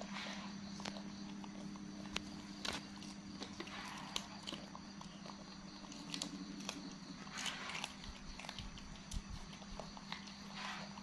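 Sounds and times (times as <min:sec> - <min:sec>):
low steady hum: 0:00.0 - 0:11.0
monkeys chewing bean pods: 0:00.0 - 0:11.0.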